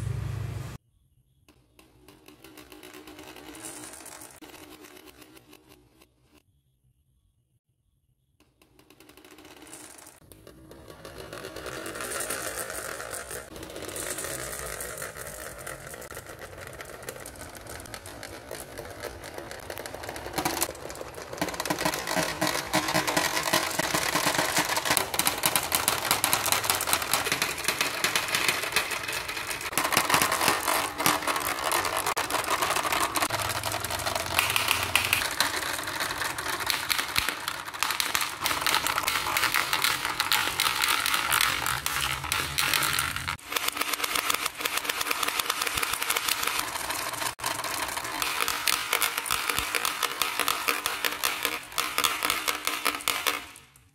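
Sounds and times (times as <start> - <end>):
marbles clacking into plastic tray: 1.7 - 5.6, 8.6 - 53.9
marbles rattling down marble run: 1.7 - 6.1, 8.5 - 53.9.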